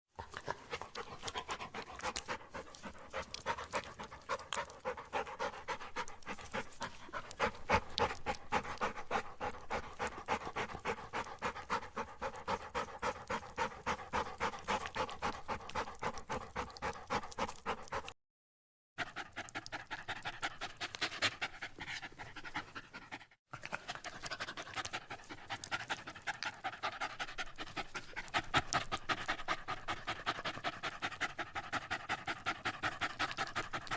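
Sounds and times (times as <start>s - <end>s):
dog panting: 0.1s - 18.2s, 19.0s - 33.9s.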